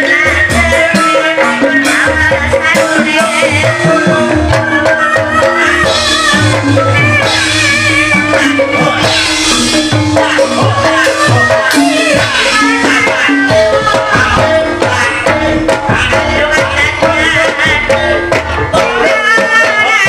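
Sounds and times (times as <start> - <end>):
person singing wavering melody: 0.0 - 20.0
gongs and metallophones playing: 2.8 - 19.8.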